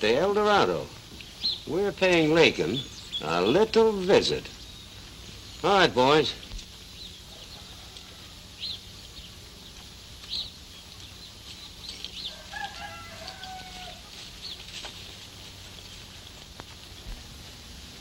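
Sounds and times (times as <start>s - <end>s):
low film soundtrack hum: 0.0s - 18.0s
chickens peeping and clucking: 0.1s - 18.0s.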